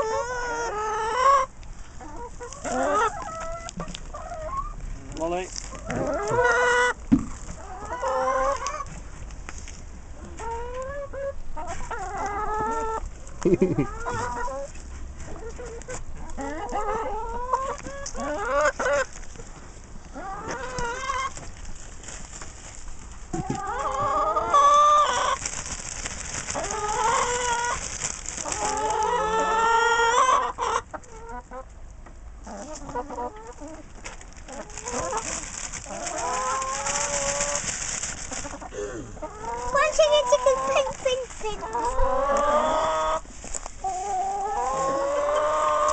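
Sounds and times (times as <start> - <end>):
hens clucking and calling: 0.0 - 45.9.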